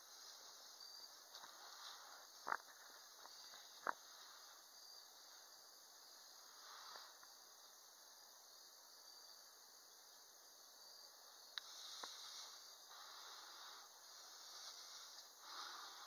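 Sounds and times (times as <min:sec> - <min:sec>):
faint outdoor background hiss: 0:00.0 - 0:16.0.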